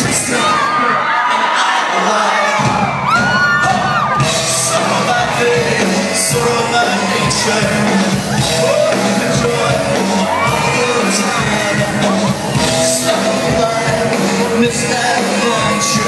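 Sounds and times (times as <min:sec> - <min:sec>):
crowd shouting: 0:00.0 - 0:16.0
live band playing pop song: 0:00.0 - 0:16.0.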